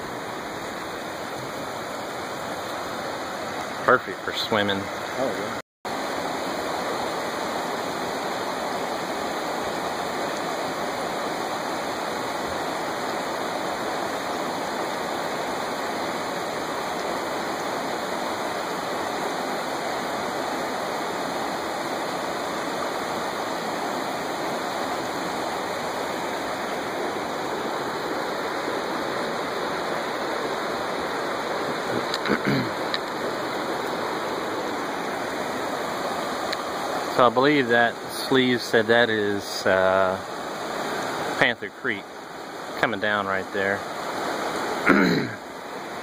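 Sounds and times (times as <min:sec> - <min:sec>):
river rushing over rocks: 0:00.0 - 0:46.0.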